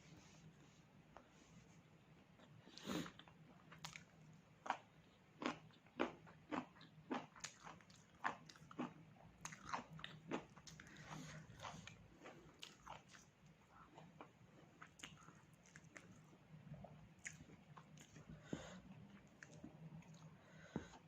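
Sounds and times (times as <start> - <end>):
person chewing crunchy food: 2.8 - 16.4, 17.2 - 21.0.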